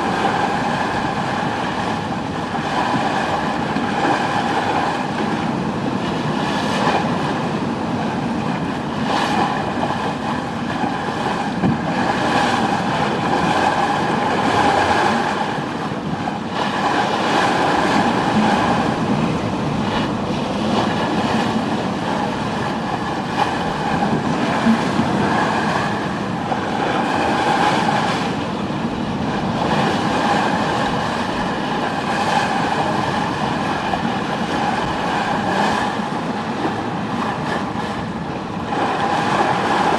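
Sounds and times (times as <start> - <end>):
boat rumbling and rushing water: 0.0 - 39.9.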